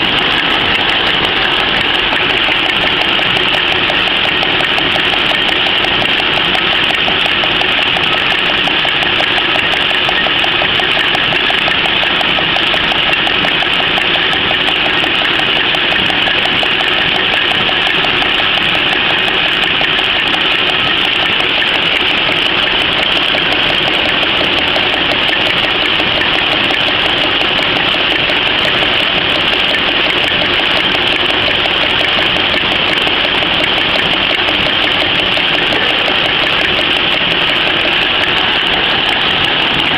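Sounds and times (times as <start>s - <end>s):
napkin machine clattering: 0.0s - 39.9s.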